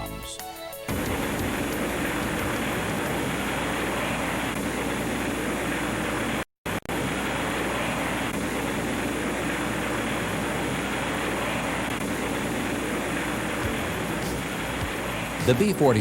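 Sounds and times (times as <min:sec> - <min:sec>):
jet engine in flight: 0:00.9 - 0:16.0.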